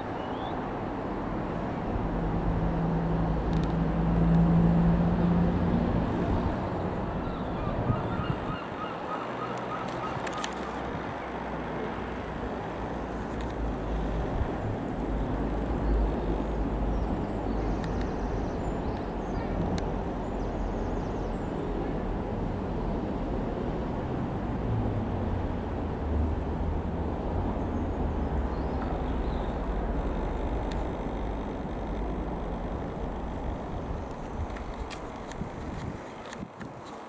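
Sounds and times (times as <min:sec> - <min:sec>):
wind rumbling on microphone: 0:00.0 - 0:08.9, 0:09.9 - 0:37.0
light aircraft engine droning: 0:00.0 - 0:37.0.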